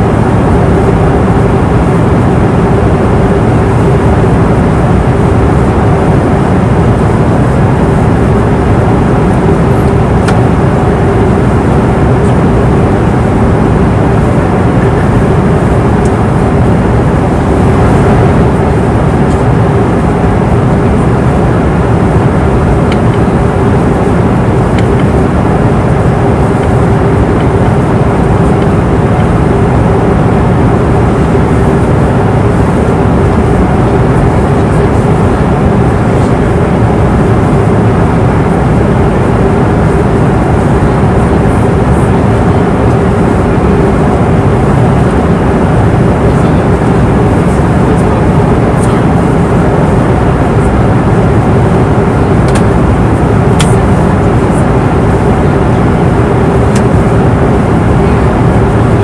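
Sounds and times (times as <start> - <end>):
airliner engines and airflow roar: 0.0 - 59.0
constant cabin hum: 0.0 - 59.0.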